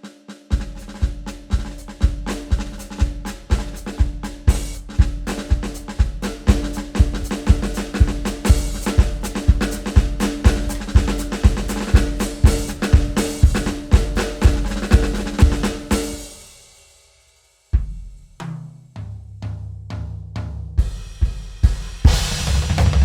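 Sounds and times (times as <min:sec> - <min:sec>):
drum kit driving beat: 0:00.0 - 0:16.8, 0:17.7 - 0:23.0.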